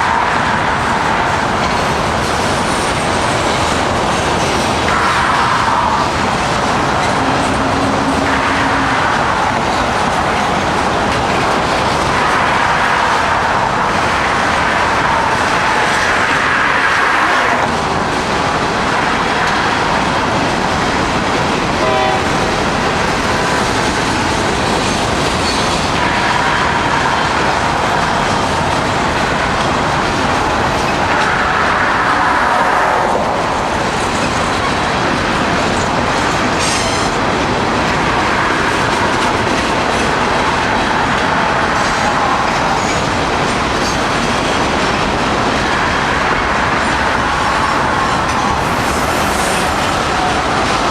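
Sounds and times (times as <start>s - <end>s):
train wheels clattering over rails: 0.0s - 50.9s.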